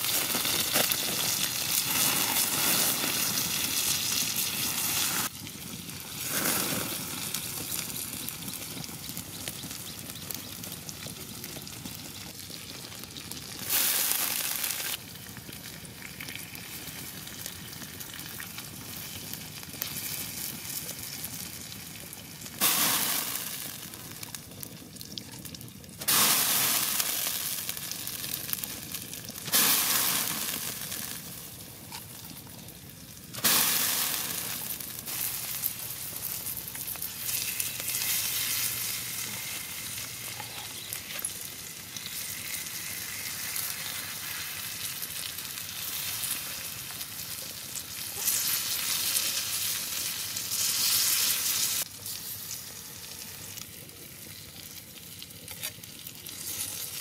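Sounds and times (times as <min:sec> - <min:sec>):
liver sizzling on hot rock: 0:00.0 - 0:57.0.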